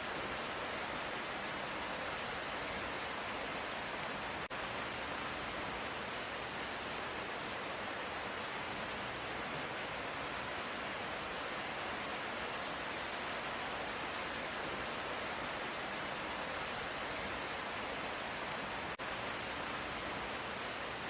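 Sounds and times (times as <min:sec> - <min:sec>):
light rain: 0:00.0 - 0:21.0.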